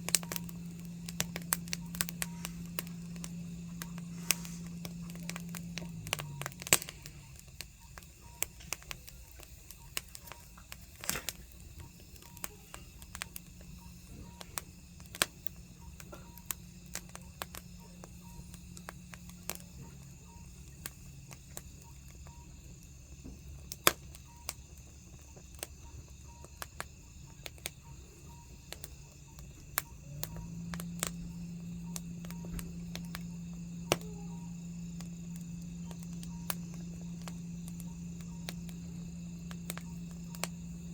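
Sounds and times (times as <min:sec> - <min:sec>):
low hum: 0:00.0 - 0:40.9
sharp pops and snaps: 0:00.0 - 0:40.9
wood fire crackling: 0:00.0 - 0:40.9.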